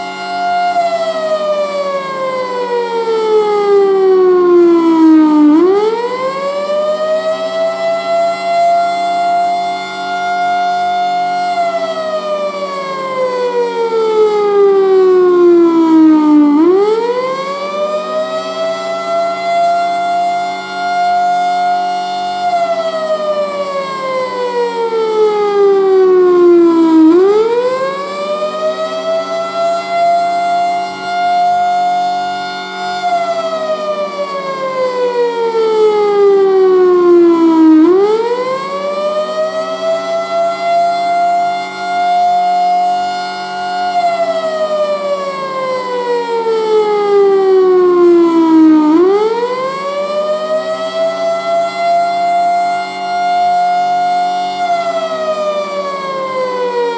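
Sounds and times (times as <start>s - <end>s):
warning siren wailing: 0.0s - 56.9s.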